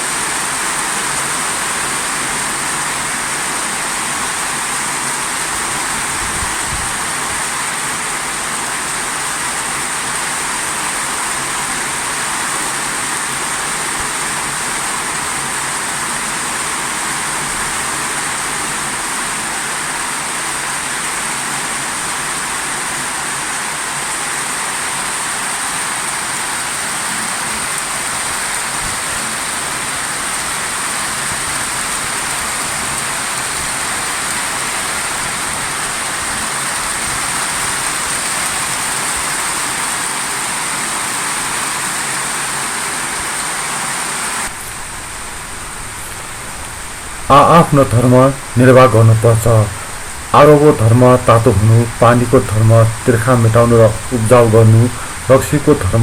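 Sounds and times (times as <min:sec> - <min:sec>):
heavy rushing water hiss: 0:00.0 - 0:56.0.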